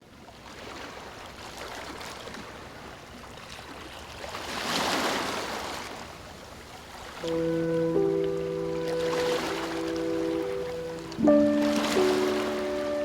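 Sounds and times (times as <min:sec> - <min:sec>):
gentle sea waves: 0:00.0 - 0:13.0.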